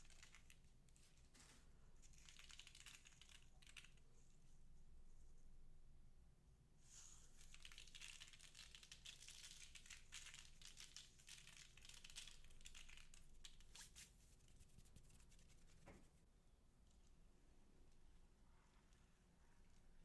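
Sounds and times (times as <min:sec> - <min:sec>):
faint high-pitched crinkling: 0:00.0 - 0:05.5, 0:06.9 - 0:20.0.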